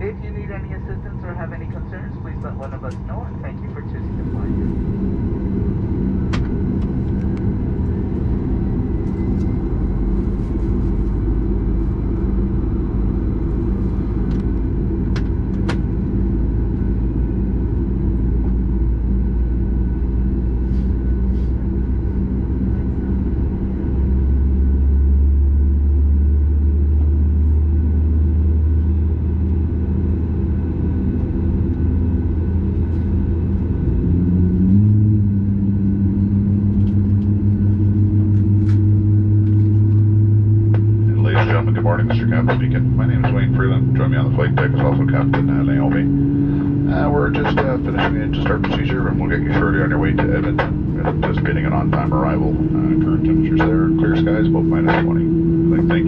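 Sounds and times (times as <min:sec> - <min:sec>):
low engine rumble with hum: 0:00.0 - 0:56.0.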